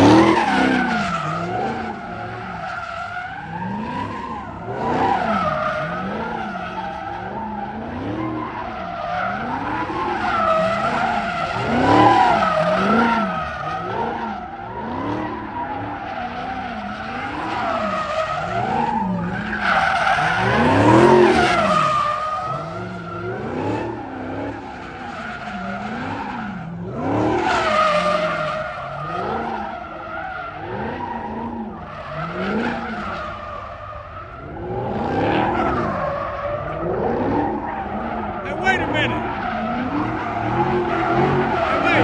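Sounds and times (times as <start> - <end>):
car engine revving: 0.0 - 42.0
tires squealing: 0.0 - 42.0.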